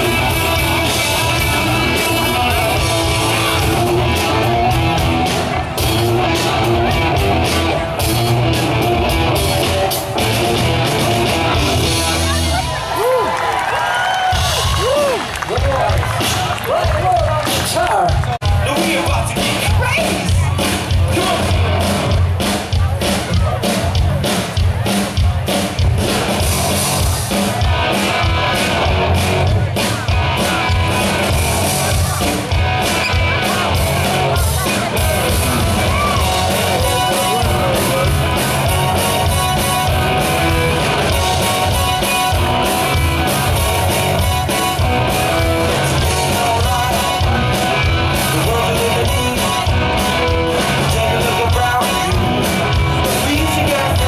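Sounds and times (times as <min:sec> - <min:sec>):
steady drum beat: 0:00.0 - 0:13.2, 0:14.2 - 0:54.0
live rock band playing: 0:00.0 - 0:54.0.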